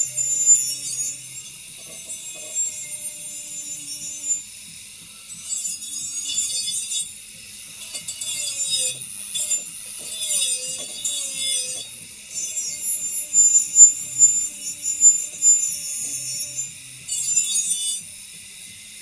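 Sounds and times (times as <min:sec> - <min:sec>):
hand tool scraping a surface: 0:00.0 - 0:04.5, 0:05.2 - 0:18.2
faint background music: 0:00.0 - 0:19.0.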